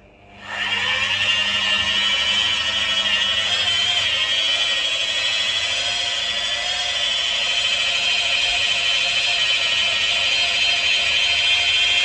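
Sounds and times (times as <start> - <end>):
power tool whining: 0.4 - 12.0.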